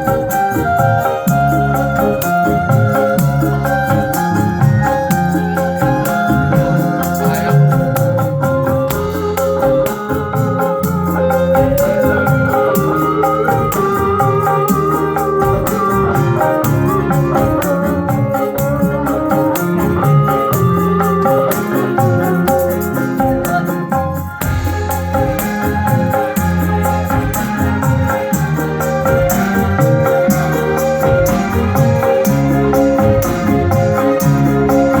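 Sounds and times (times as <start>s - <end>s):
electronic keyboard melody: 0.0s - 35.0s
hand-beaten frame drums: 0.0s - 35.0s.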